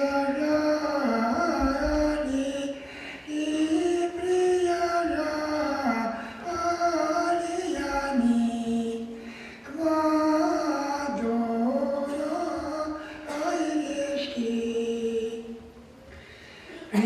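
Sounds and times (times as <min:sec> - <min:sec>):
high voice singing slow melody: 0:00.0 - 0:16.1.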